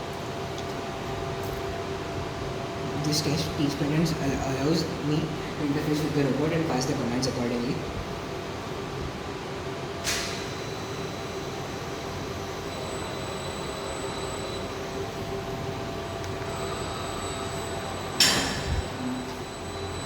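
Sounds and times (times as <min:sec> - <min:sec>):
robot machinery hum with whining: 0:01.0 - 0:20.0.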